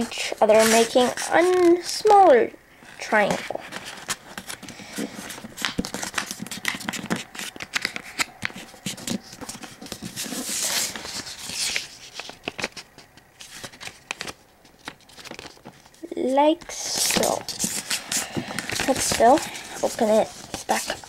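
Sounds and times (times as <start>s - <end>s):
paper being folded and creased: 0.0s - 21.0s.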